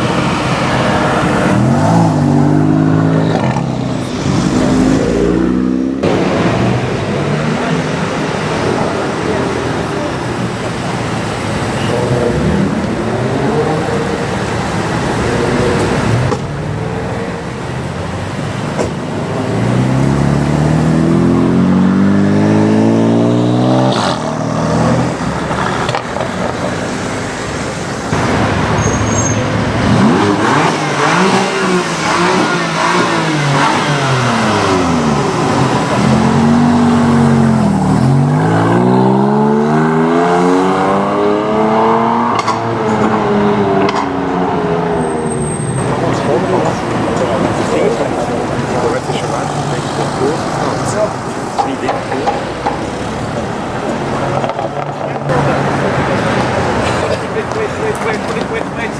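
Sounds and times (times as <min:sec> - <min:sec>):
car engine accelerating hard: 0:00.0 - 0:58.9.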